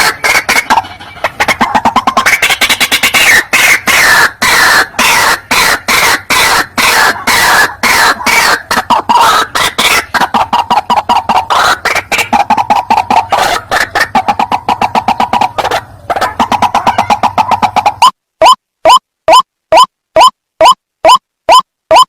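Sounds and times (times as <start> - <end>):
bird harsh croaking call: 0.0 - 18.1.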